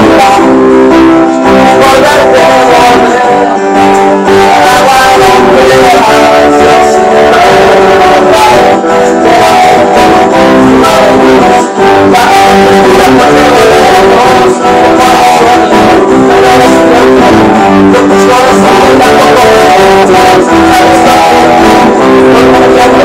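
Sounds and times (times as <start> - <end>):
acoustic and electric guitars playing: 0.0 - 23.0.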